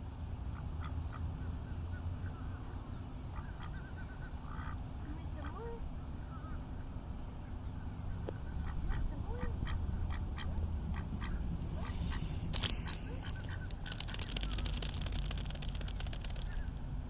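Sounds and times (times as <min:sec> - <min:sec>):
steady low rumble: 0:00.2 - 0:17.0
waterfowl calling: 0:00.6 - 0:16.8.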